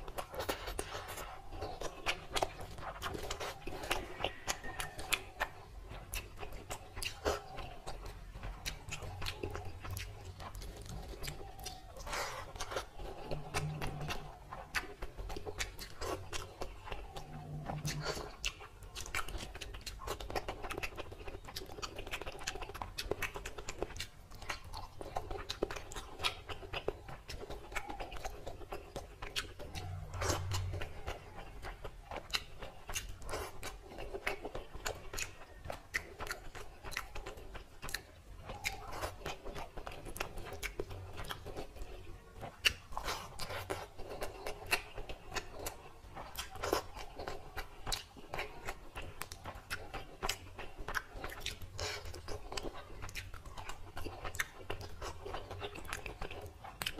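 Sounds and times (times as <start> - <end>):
wet chewing and lip smacks: 0.0 - 56.9.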